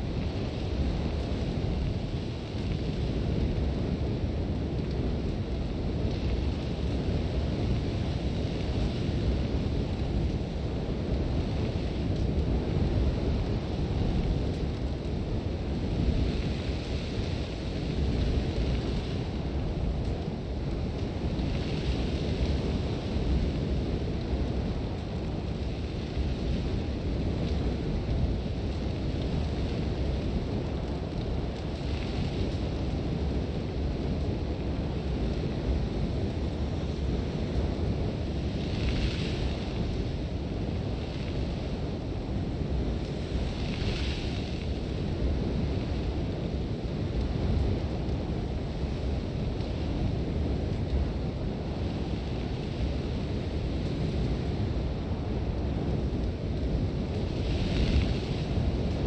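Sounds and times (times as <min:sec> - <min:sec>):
strong wind with deep rumble: 0:00.0 - 0:59.0.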